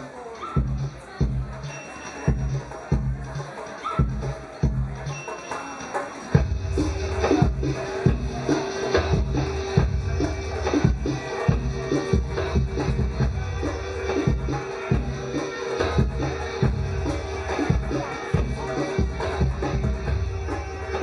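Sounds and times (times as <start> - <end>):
dance music with drum beat: 0.0 - 21.0.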